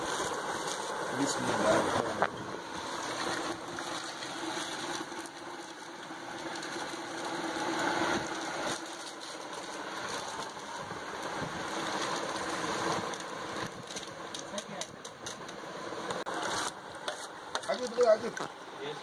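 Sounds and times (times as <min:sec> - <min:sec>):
motor-like hum: 0:00.0 - 0:19.0.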